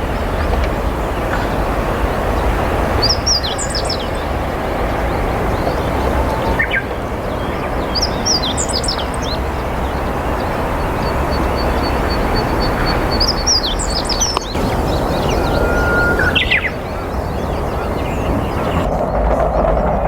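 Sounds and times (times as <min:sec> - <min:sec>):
low background noise: 0:00.0 - 0:20.0
bunting singing high notes: 0:01.9 - 0:18.9.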